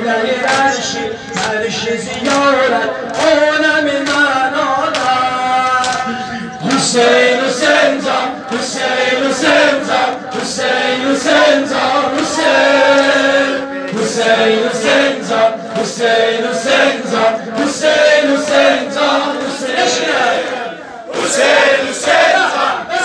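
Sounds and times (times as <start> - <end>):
men chanting a lament: 0.0 - 23.0
rhythmic chest-beating: 0.0 - 23.0.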